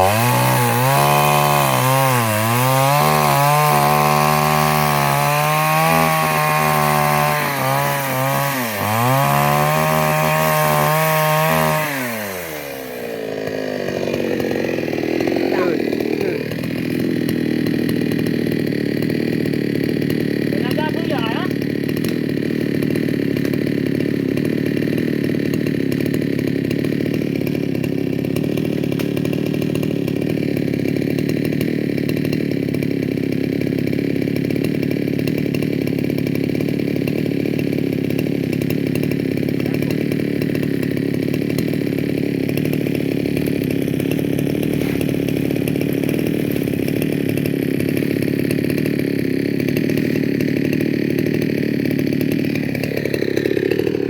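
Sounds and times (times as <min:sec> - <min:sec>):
chainsaw engine running: 0:00.0 - 0:54.0.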